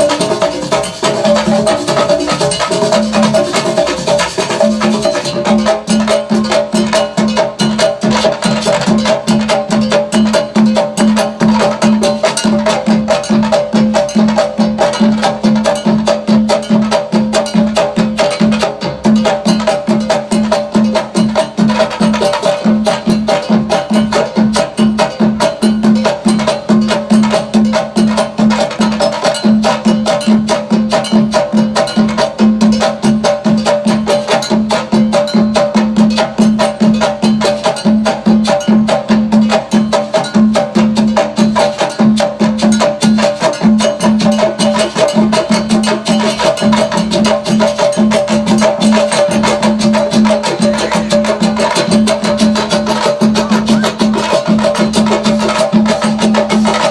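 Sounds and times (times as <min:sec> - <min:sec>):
percussion ensemble drumming: 0:00.0 - 0:56.9.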